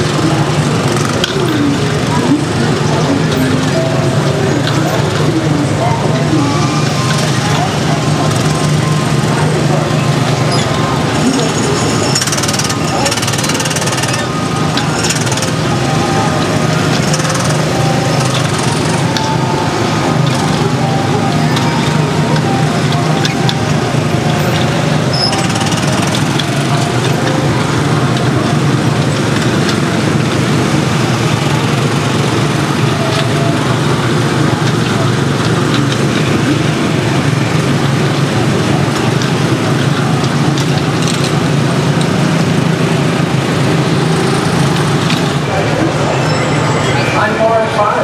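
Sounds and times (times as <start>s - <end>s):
crowd chatter: 0.0s - 48.0s.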